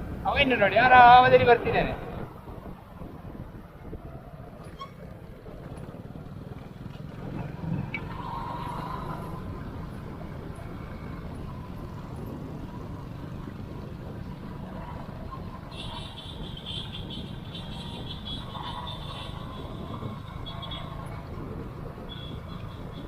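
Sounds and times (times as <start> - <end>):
motorcycle engine rumbling: 0.0 - 23.0
road noise: 0.0 - 23.0.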